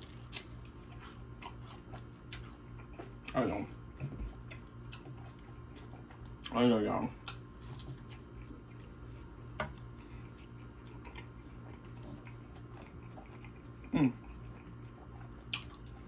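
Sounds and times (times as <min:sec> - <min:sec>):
chewing: 0:00.0 - 0:06.6, 0:07.2 - 0:16.0.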